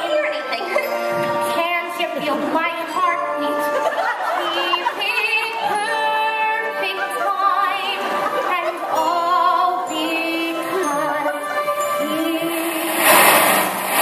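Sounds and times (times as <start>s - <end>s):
woman singing with vibrato: 0.0s - 13.8s.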